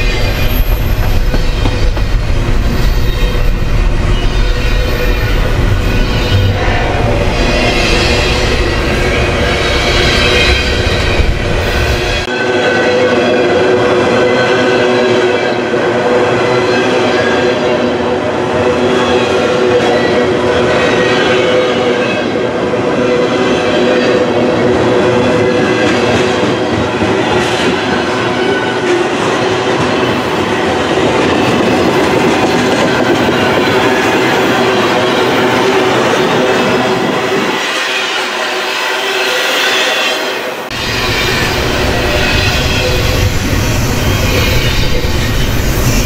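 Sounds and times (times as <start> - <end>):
train wheels rolling on track: 0.0 - 12.3, 16.8 - 46.0.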